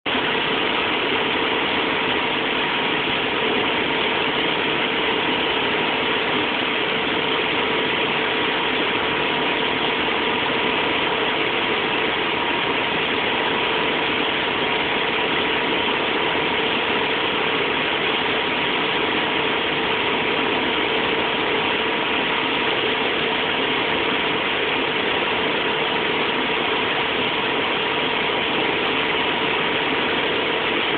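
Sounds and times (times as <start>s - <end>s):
motorboat engine running: 0.1s - 30.9s.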